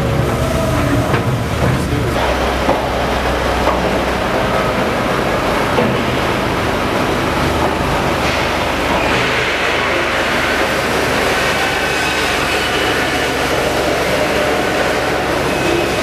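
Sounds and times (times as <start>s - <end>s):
high whine: 0.0s - 16.0s
train rumbling in tunnel: 0.0s - 16.0s.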